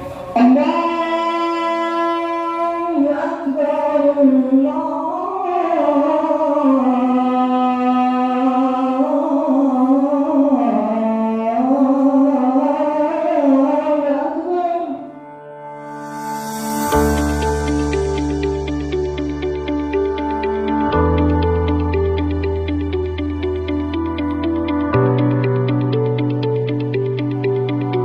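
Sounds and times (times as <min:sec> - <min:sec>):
person singing slow melody: 0:00.0 - 0:28.0.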